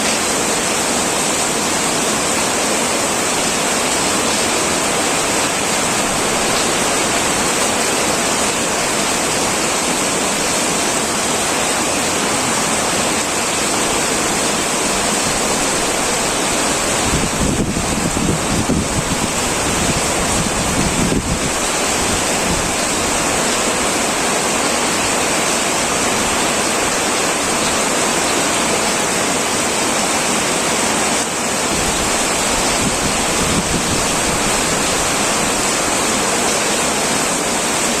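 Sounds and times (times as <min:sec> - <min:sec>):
heavy rain on a tin roof: 0:00.0 - 0:38.0.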